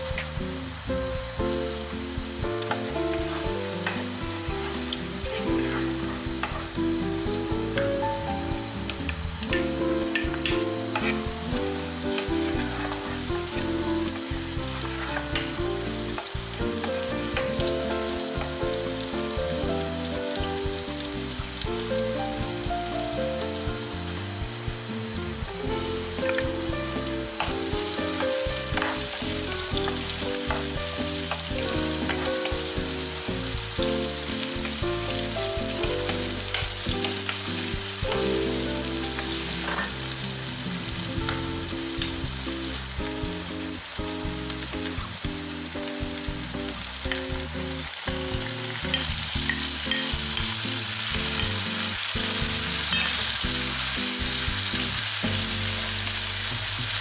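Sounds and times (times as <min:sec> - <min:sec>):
onion sizzling in hot oil: 0:00.0 - 0:57.0.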